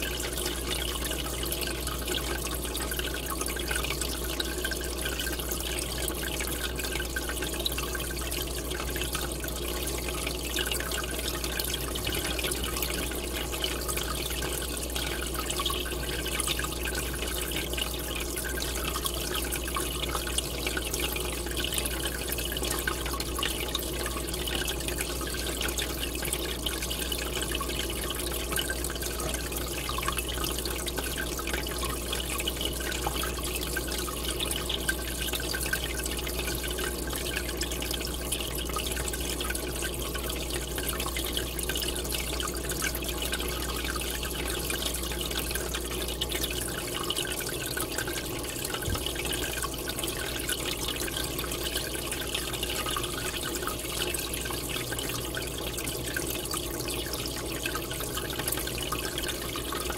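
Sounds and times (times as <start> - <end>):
aquarium air bubbling: 0.0 - 59.9.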